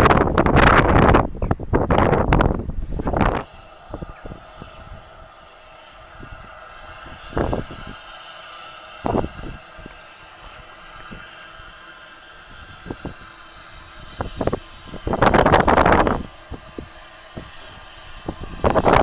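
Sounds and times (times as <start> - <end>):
loud rush of steam: 0.0 - 19.0
steam engine running slowly: 0.0 - 19.0.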